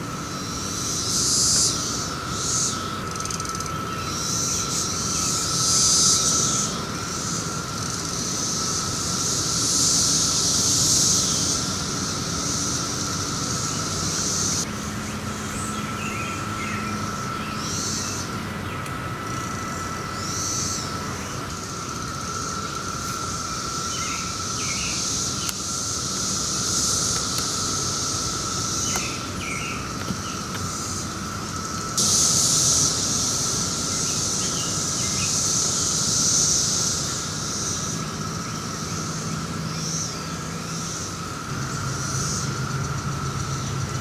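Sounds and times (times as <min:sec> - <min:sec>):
cicada chorus drone: 0:00.0 - 0:44.0
high-pitched cicada buzzing: 0:00.0 - 0:44.0.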